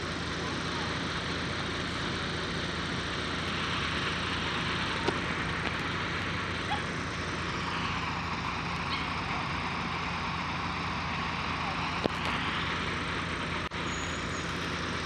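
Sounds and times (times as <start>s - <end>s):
fire engine diesel running: 0.0s - 15.0s.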